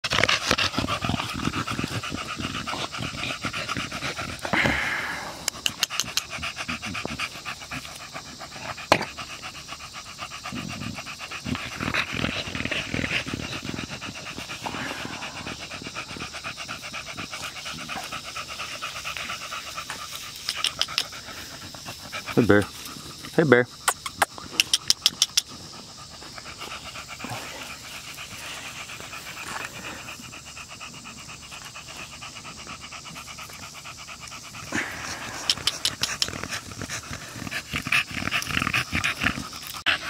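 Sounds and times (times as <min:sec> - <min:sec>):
dog panting rapidly: 0:00.0 - 0:40.0.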